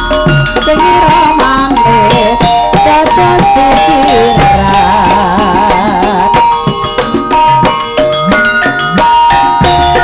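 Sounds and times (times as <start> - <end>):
drums and percussion rhythm: 0.0 - 10.0
sustained melody with vibrato: 0.0 - 10.0.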